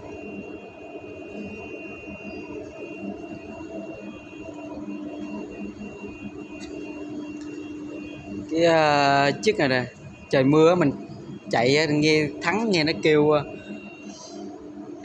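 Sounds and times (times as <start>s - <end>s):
high steady whine: 0.0s - 15.0s
machine hum: 0.0s - 15.0s.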